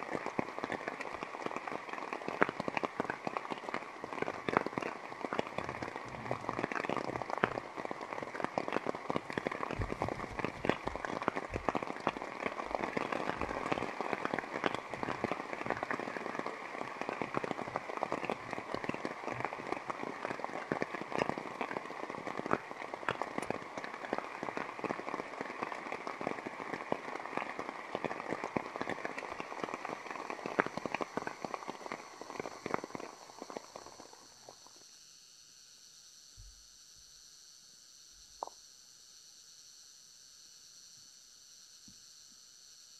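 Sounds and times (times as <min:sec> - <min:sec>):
rain pattering on a tarp: 0:00.0 - 0:34.7.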